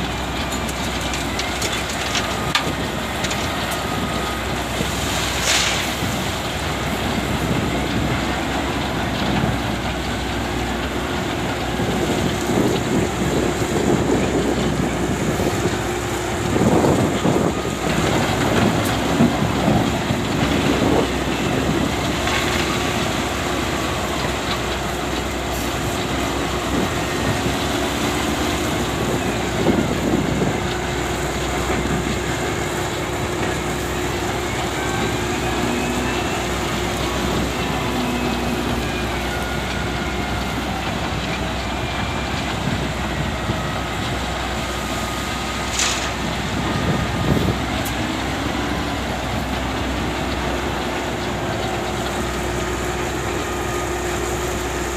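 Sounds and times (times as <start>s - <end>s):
diesel loader engine working: 0.0s - 54.9s.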